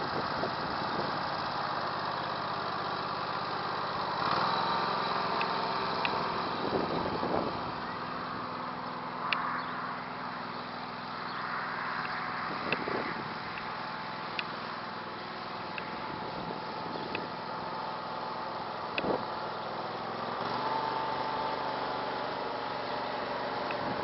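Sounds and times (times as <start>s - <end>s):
garden tractor engine running: 0.0s - 24.0s.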